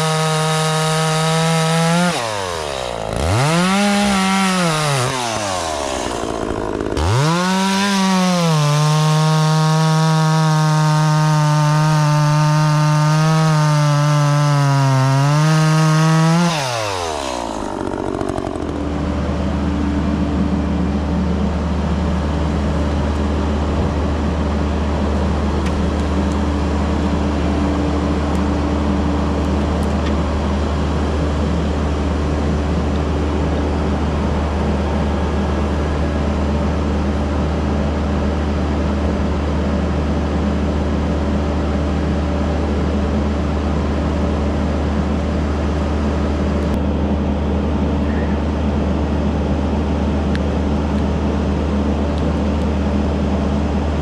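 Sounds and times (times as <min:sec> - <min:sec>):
chainsaw revving and cutting wood: 0:00.0 - 0:46.8
heavy engine low hum: 0:00.0 - 0:54.0.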